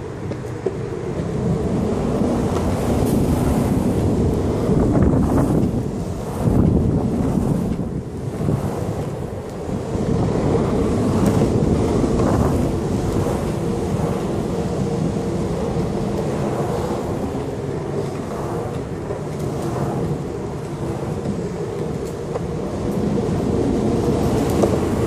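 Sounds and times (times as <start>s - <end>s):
skateboard wheels rolling on concrete: 0.0s - 25.0s
wind buffeting microphone: 0.0s - 25.0s.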